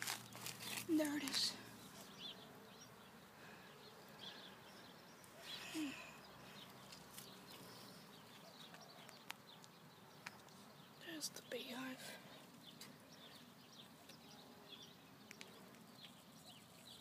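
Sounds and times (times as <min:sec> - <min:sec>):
faint bird chirps: 0:01.0 - 0:17.0.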